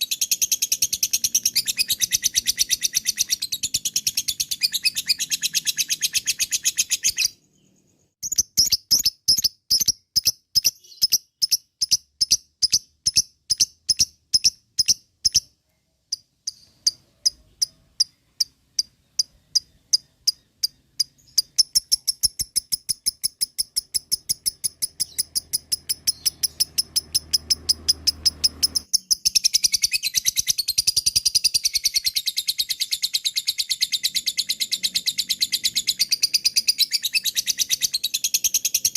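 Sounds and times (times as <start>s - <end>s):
lovebird chattering: 0.0s - 7.4s, 8.2s - 38.9s.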